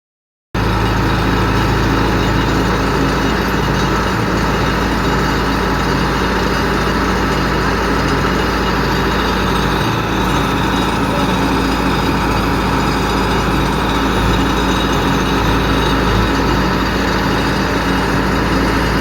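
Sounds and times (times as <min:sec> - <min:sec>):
piling rig engine running: 0:00.6 - 0:19.0.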